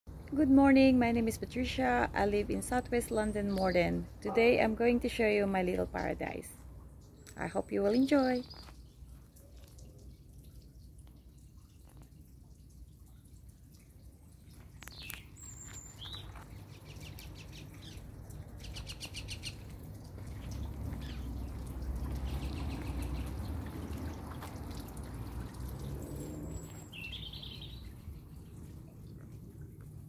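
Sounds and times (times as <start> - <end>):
birds chirping: 1.8 - 11.8, 14.3 - 29.8.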